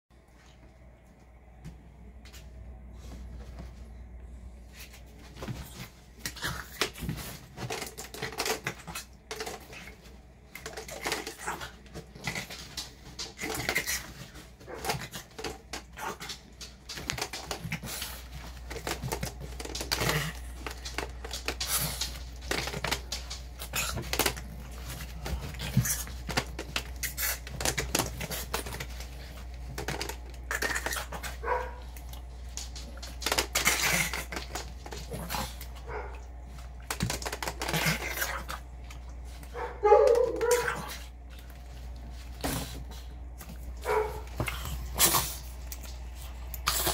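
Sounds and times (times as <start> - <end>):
dog growling and snapping: 5.4 - 39.2, 40.1 - 46.9.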